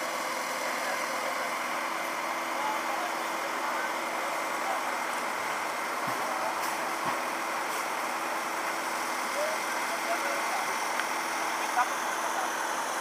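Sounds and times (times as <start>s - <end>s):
vehicle engines idling: 0.0s - 13.0s.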